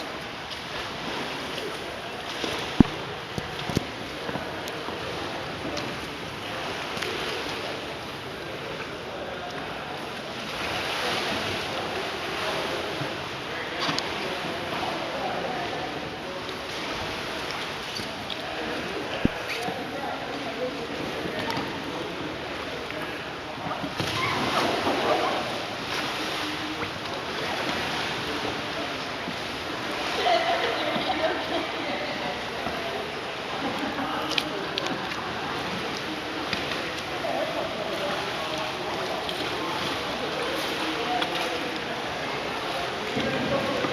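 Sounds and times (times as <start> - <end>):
water splashing: 0.0 - 43.9.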